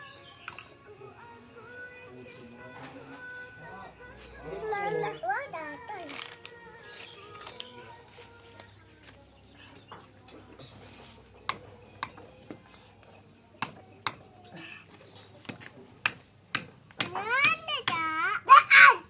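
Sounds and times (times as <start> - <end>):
faint children's voices: 0.0 - 19.0.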